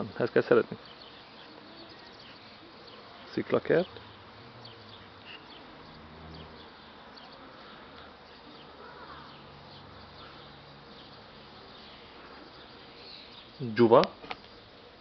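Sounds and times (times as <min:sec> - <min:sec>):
bees buzzing: 0:00.0 - 0:15.0
faint high chirps: 0:00.8 - 0:14.7.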